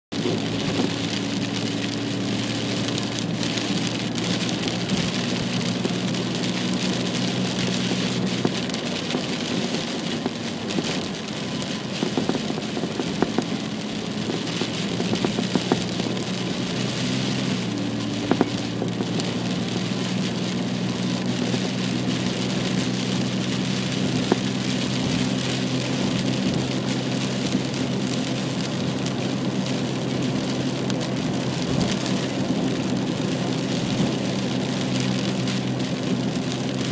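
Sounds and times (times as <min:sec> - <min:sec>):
car engine and road hum: 0:00.1 - 0:36.9
rain and wet road noise: 0:00.1 - 0:36.9.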